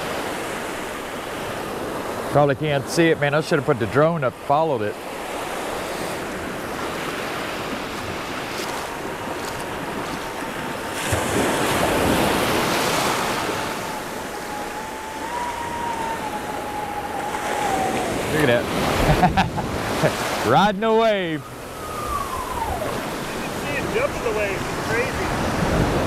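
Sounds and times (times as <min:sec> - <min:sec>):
surf washing on sandy beach: 0:00.0 - 0:26.0
wave crashing: 0:04.8 - 0:26.0.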